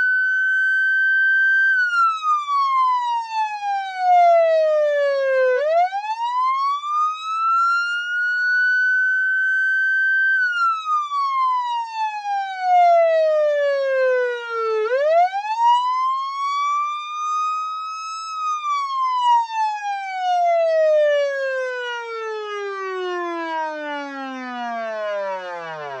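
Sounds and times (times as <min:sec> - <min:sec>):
police siren wailing: 0:00.0 - 0:26.0.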